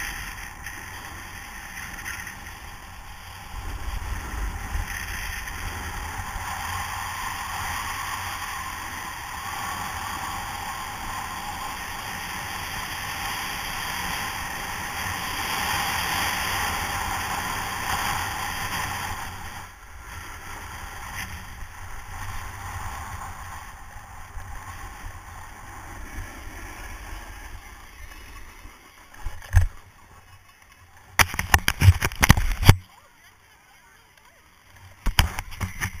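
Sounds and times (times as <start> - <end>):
sliding hiss on snow: 0.0 - 31.2
wind over camera: 0.0 - 36.0.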